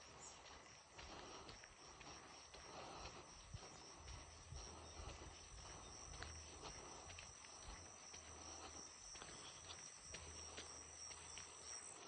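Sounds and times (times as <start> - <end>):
footsteps on dirt road: 0.0 - 12.0.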